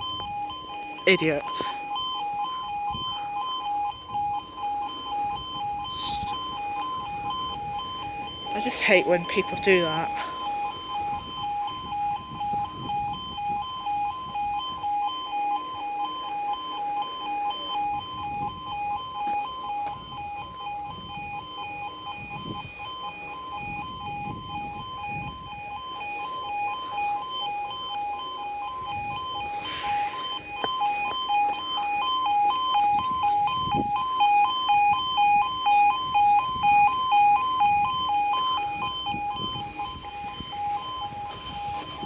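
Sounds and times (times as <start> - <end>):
level crossing two-tone alarm: 0.0 - 42.0.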